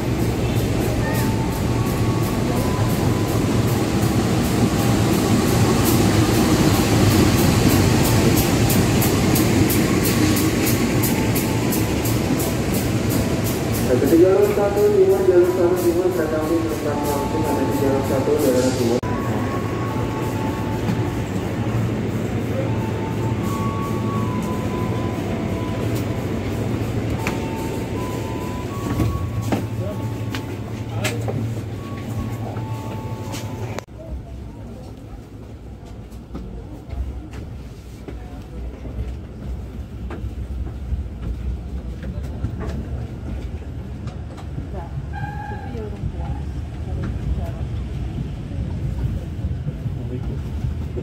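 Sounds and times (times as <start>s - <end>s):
train coaches rolling past: 0.0s - 51.0s.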